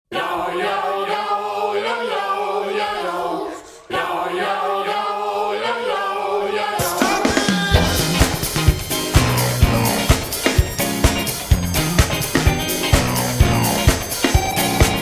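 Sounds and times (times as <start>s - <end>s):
voices singing in harmony: 0.1s - 15.0s.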